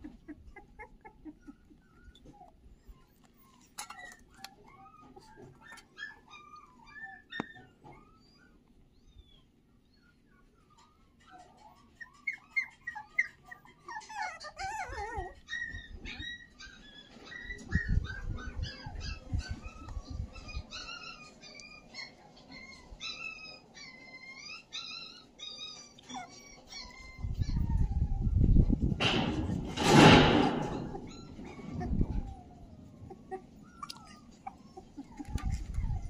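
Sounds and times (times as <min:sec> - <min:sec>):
young animal whimpering: 0:00.0 - 0:36.0.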